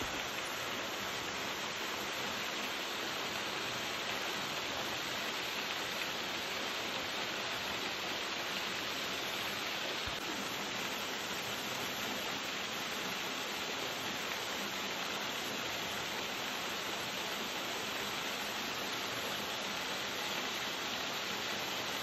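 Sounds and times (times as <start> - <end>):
small waterfall splashing into pool: 0.0 - 22.0.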